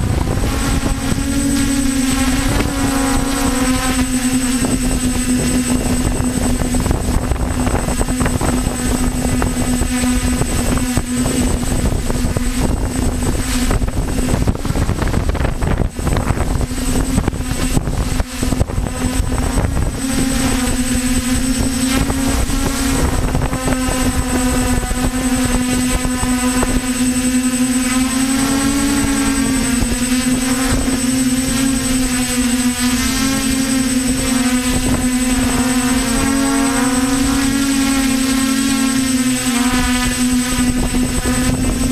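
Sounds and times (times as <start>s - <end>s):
drone motors buzzing hum: 0.0s - 41.9s
wind buffeting microphone: 0.0s - 41.9s.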